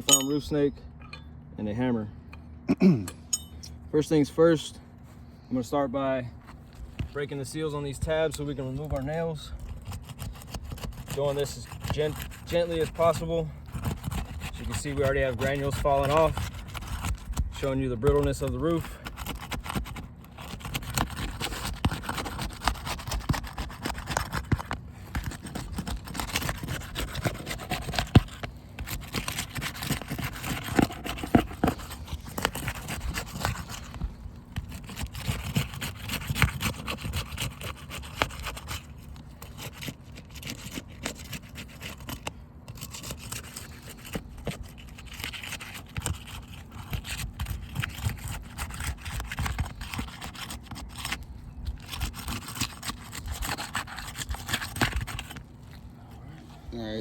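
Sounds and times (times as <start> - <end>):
pry tool scraping shingles: 6.7 - 55.9.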